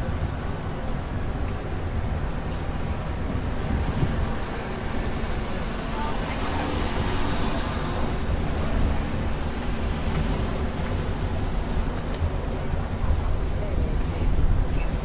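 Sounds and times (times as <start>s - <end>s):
cars passing: 1.9s - 14.7s.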